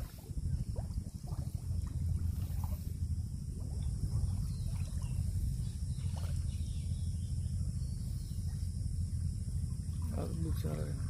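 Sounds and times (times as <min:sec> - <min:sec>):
faint water splashes: 0:00.0 - 0:11.0
wind buffeting microphone: 0:00.0 - 0:11.0.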